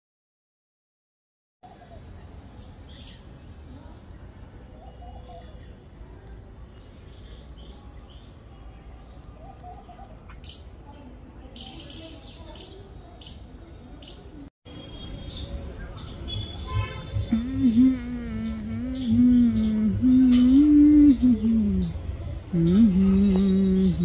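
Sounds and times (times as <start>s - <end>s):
small birds chirping: 1.7s - 24.0s.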